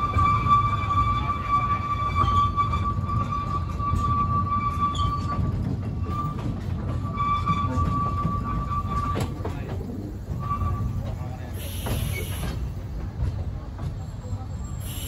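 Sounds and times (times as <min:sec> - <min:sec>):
train wheels rumbling on rail: 0:00.0 - 0:15.0
high wheel squeal: 0:00.1 - 0:12.7, 0:14.1 - 0:15.0.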